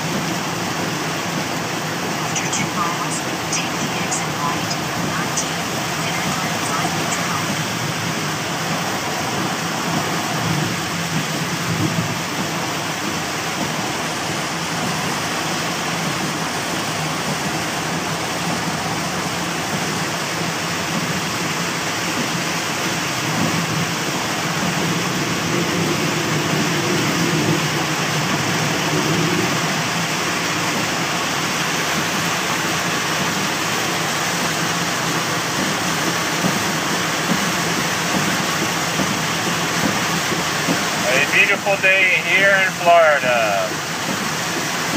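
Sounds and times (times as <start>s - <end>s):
heavy rain on a car: 0.0s - 44.9s
tyres hissing on wet road: 0.0s - 44.9s.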